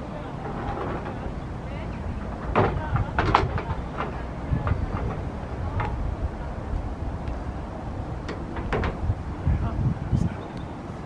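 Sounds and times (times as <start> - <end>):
low uneven rumble: 0.0 - 11.0.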